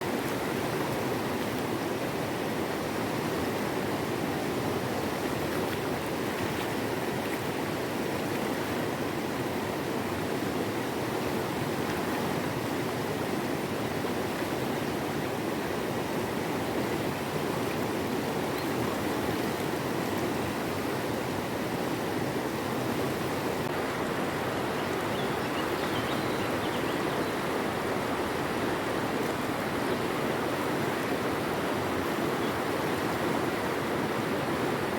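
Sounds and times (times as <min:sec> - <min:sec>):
river water rushing over stones: 0:00.0 - 0:34.9.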